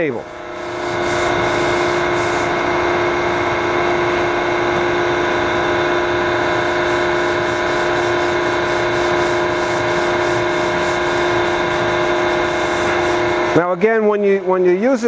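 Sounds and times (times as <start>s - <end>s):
grinding machine hum and whine: 0.0s - 15.0s.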